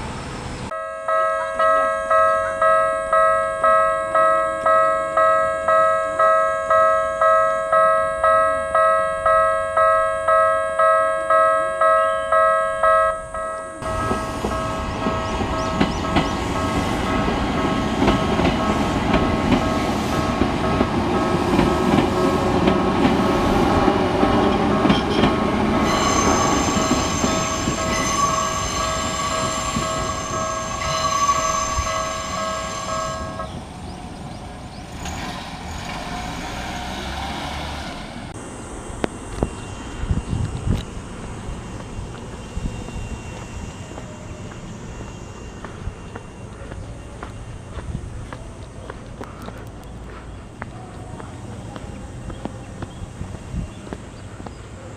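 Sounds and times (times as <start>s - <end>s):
electric train passing: 0.0s - 54.9s
crossing warning bell: 0.7s - 36.2s, 39.2s - 49.2s.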